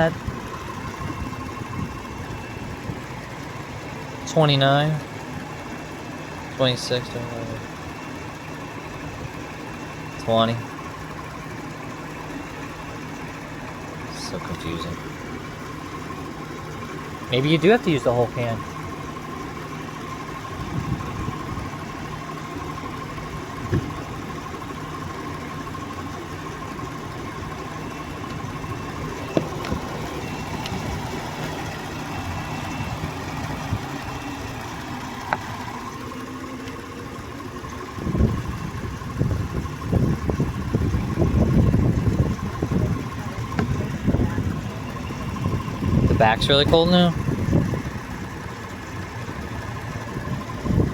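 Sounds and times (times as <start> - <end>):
car engine idling: 0.0 - 50.9
uneven rumbling: 0.0 - 50.9.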